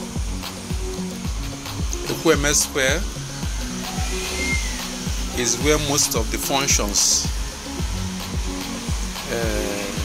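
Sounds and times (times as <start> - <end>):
background music with steady beat: 0.0 - 10.0
steady hiss: 0.0 - 10.0.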